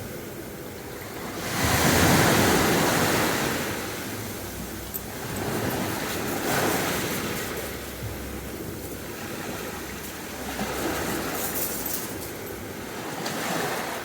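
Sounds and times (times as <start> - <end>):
sea waves breaking on beach: 0.0 - 14.0.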